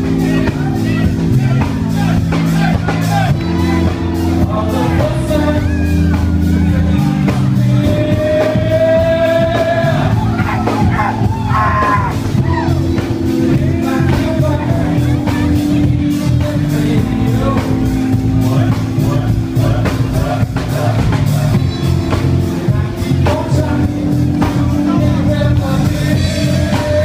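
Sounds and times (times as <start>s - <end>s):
person singing: 0.0s - 27.0s
rock band playing: 0.0s - 27.0s.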